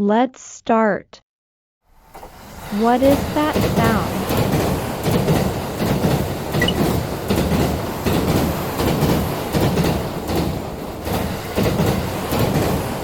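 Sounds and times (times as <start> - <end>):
train wheels clattering over track joints: 2.0 - 13.0.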